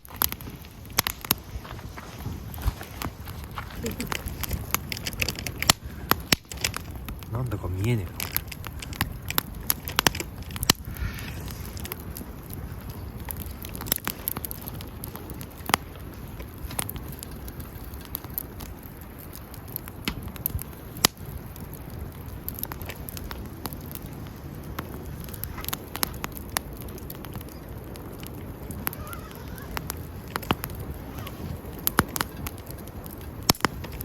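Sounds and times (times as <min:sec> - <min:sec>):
fire burning rush: 0:00.0 - 0:34.0
fire pops and snaps: 0:00.0 - 0:34.0.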